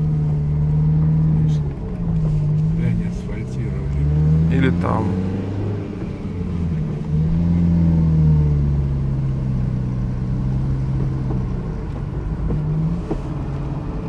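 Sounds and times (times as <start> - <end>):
car engine: 0.0 - 14.0
road noise inside car: 0.0 - 14.0.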